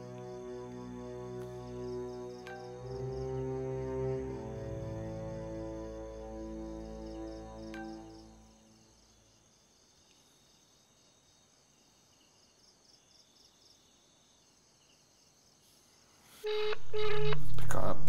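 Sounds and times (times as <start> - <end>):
crickets chirping: 0.0 - 17.2.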